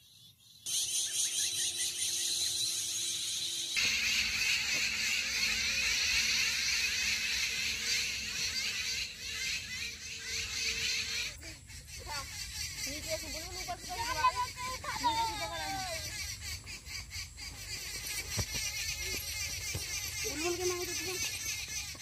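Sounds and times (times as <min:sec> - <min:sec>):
birds chattering: 0:00.0 - 0:22.0.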